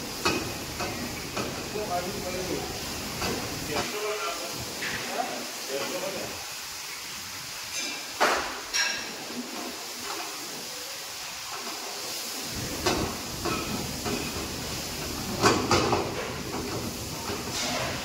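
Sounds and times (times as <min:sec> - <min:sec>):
pan hissing on burner: 0:00.0 - 0:18.0.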